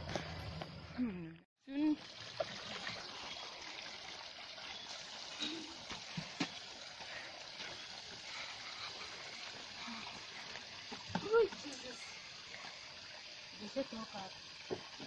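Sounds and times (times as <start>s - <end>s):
stream water running: 1.6s - 15.0s.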